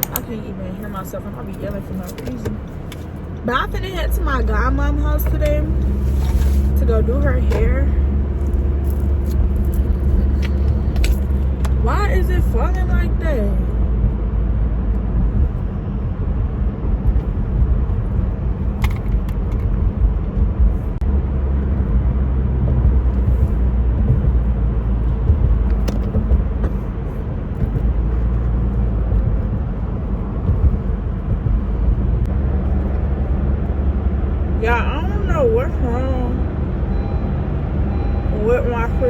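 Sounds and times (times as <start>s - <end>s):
road and engine rumble: 0.0s - 39.0s.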